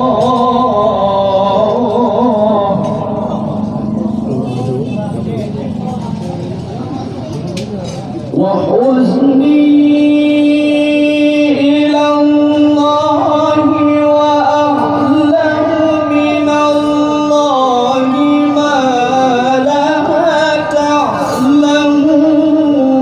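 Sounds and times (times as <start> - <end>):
man reciting melodically: 0.0 - 6.8, 7.8 - 23.0.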